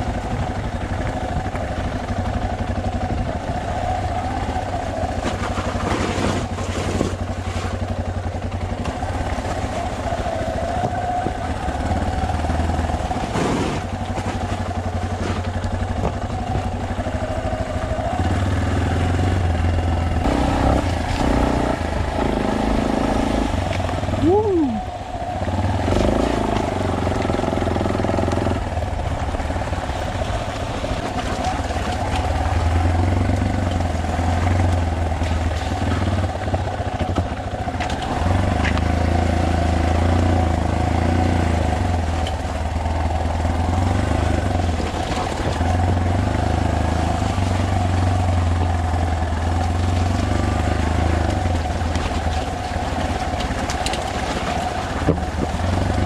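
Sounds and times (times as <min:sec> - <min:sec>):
constant rushing noise: 0:00.0 - 0:56.0
motorcycle engine running: 0:00.0 - 0:56.0.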